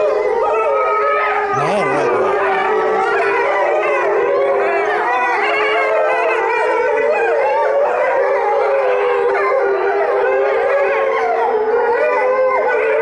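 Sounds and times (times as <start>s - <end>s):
wolves howling in chorus: 0.0s - 13.0s.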